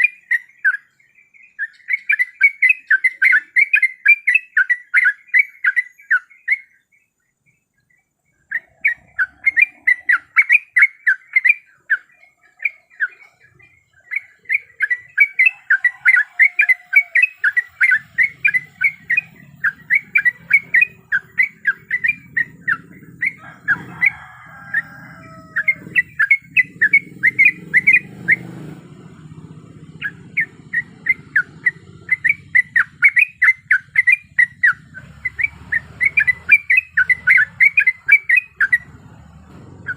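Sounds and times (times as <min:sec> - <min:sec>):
bulbul chirping: 0:00.0 - 0:39.9.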